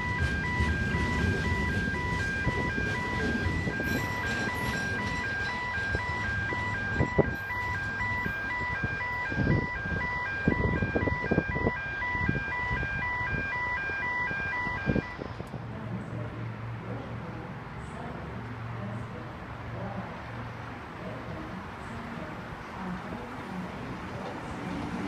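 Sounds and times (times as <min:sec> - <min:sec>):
crossing warning bells: 0:00.0 - 0:25.0
freight wagons rumbling: 0:00.0 - 0:25.0.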